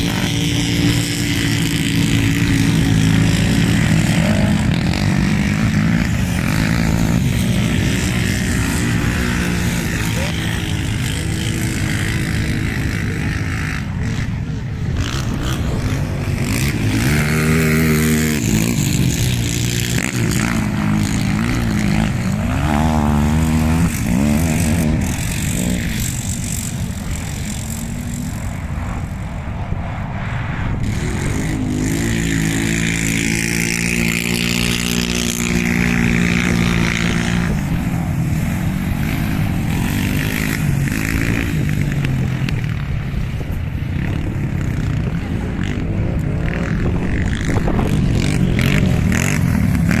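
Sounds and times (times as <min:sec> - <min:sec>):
quad bike engines revving: 0:00.0 - 0:29.8, 0:30.7 - 0:50.0.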